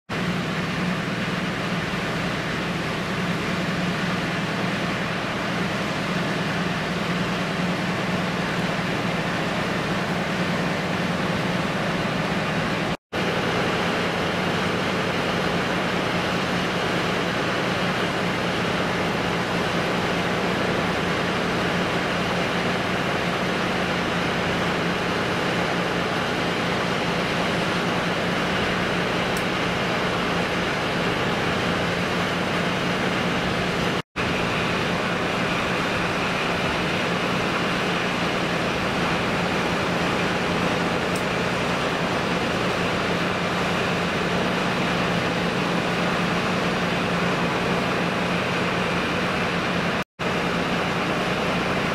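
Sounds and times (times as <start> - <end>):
diesel engine low drone: 0.1 - 51.9.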